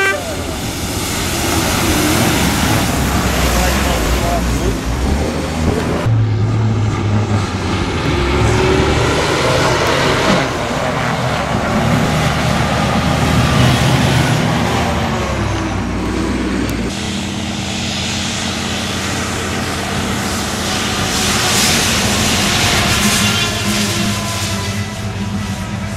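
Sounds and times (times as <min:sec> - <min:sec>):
diesel truck engine under load: 0:00.0 - 0:24.1.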